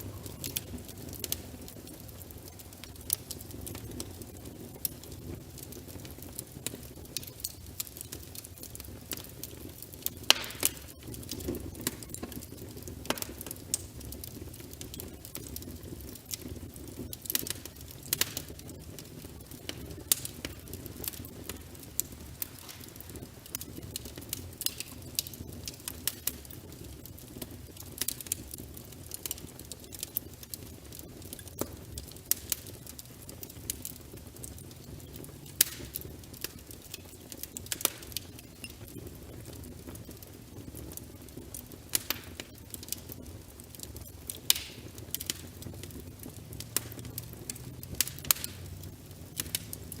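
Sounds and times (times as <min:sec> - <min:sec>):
burning wood crackling and popping: 0:00.0 - 0:50.0
fire flames rumbling: 0:00.0 - 0:50.0.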